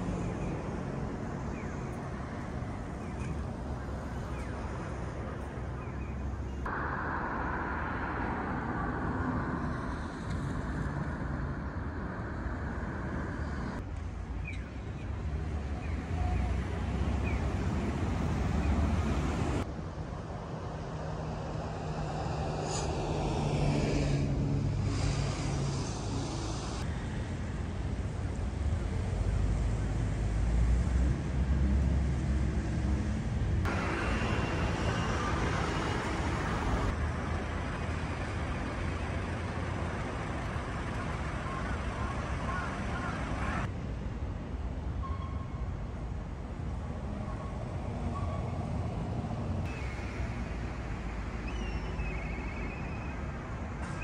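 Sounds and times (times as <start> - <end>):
city traffic rumble: 0.0 - 54.0
street noise hiss: 0.0 - 54.0.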